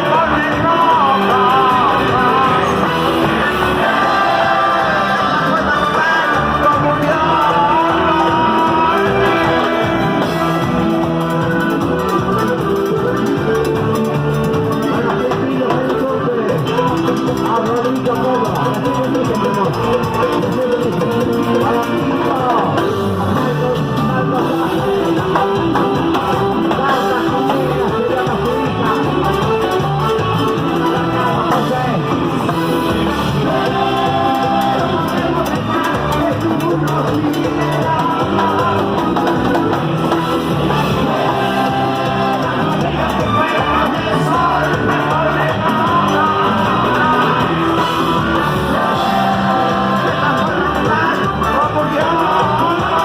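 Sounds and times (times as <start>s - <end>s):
guitar: 0.0s - 53.0s
person singing: 0.0s - 53.0s.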